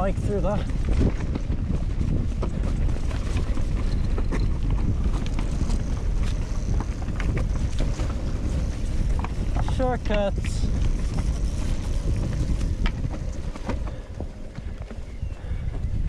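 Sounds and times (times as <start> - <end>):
tyres rattling over loose stones: 0.0 - 15.6
mountain bike rolling downhill: 0.0 - 16.0
wind buffeting microphone: 0.0 - 16.0.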